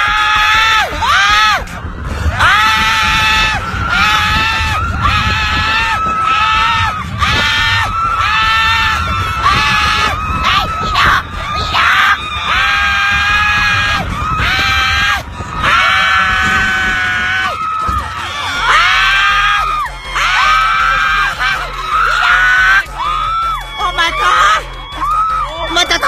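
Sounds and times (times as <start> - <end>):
rumble of wind and ride noise: 0.0 - 26.0.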